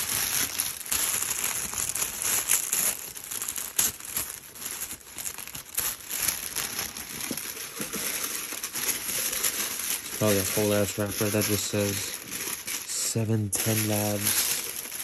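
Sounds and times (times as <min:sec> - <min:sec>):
packaging wrapper crinkling: 0:00.0 - 0:15.0.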